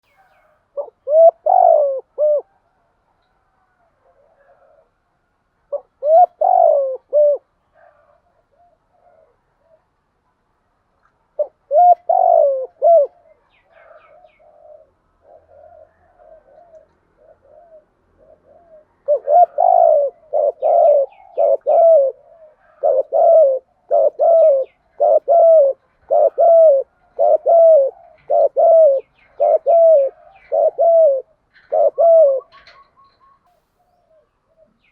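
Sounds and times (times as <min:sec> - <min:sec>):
dove cooing: 0:00.0 - 0:02.9, 0:03.6 - 0:05.0, 0:05.7 - 0:10.0, 0:11.3 - 0:34.9.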